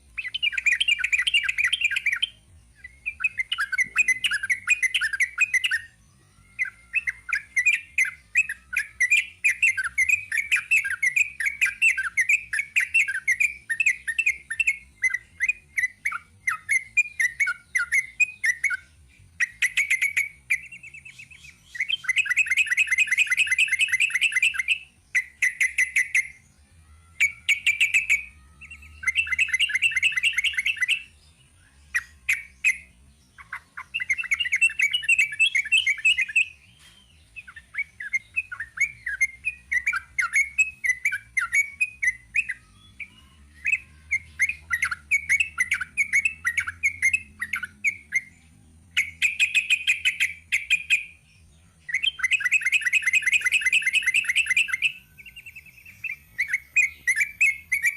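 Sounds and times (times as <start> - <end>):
bird chattering song: 0.0 - 57.9.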